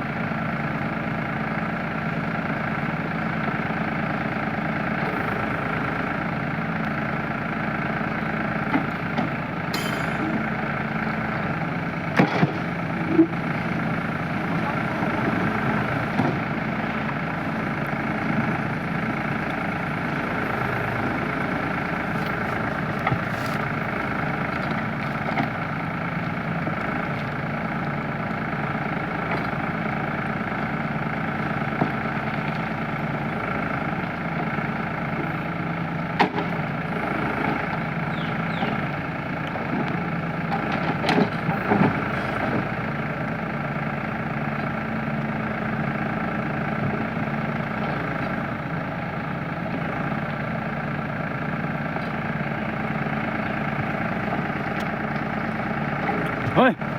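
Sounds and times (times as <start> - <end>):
backhoe diesel engine running: 0.0 - 56.9.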